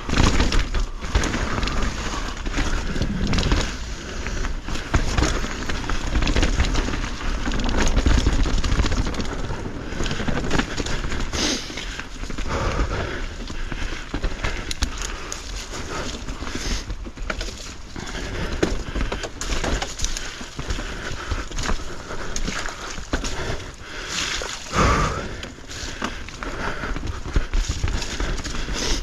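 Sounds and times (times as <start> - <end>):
bike rattling and knocking: 0.0 - 29.0
bike tyres rolling over dirt: 0.0 - 29.0.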